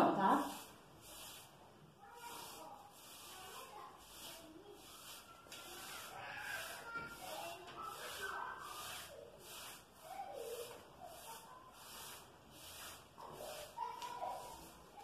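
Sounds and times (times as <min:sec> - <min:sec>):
damp sponge rubbing on wall: 0:00.0 - 0:15.0.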